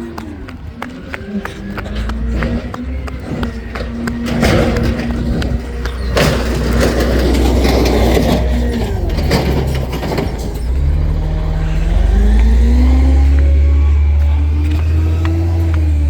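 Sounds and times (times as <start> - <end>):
garbage truck engine revving: 0.0 - 16.0
garbage truck clatter and knocks: 0.1 - 16.0.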